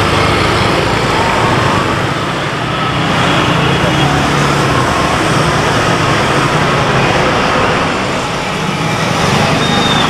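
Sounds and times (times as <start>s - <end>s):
passing motorbikes and cars: 0.0s - 10.0s.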